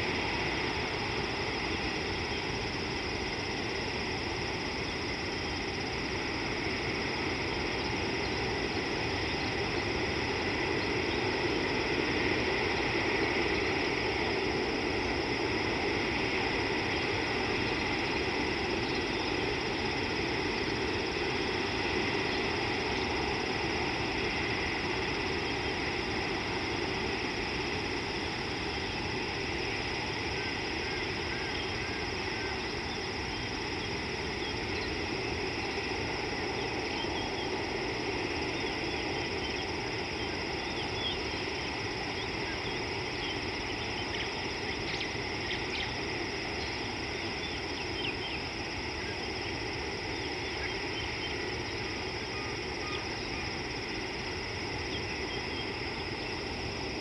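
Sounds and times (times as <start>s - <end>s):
insect drone: 0.0s - 57.0s.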